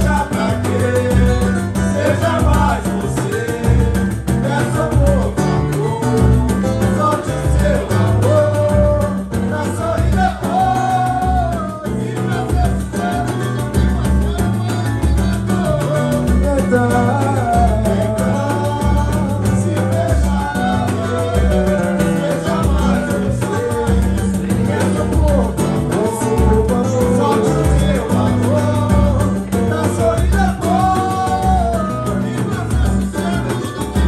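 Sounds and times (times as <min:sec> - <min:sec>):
deep hand drum beats: 0:00.0 - 0:34.0
voices singing: 0:00.0 - 0:34.0.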